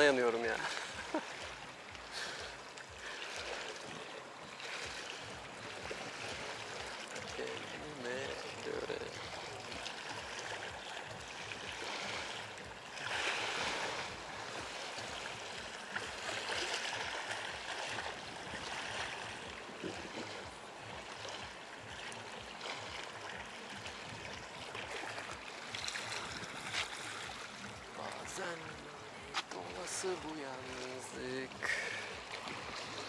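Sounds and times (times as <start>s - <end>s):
sea waves washing onto beach: 0.0s - 33.0s.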